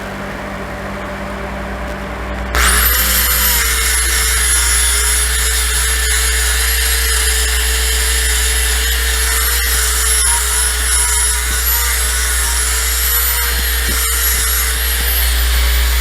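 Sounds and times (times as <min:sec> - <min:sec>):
power grinder grinding steel: 0:02.5 - 0:16.0.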